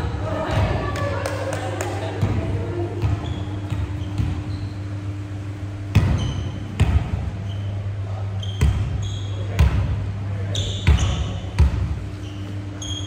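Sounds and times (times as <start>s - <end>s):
sneakers squeaking on floor: 2.2s - 13.0s.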